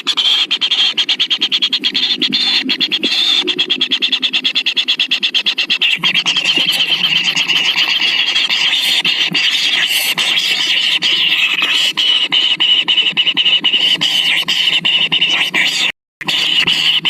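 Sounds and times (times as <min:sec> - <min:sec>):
nestlings begging: 0:00.0 - 0:17.0.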